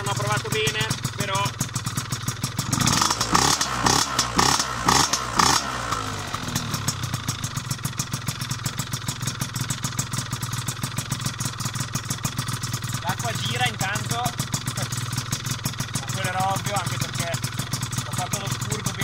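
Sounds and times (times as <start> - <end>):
scooter two-stroke engine revving and idling: 0.0 - 19.0.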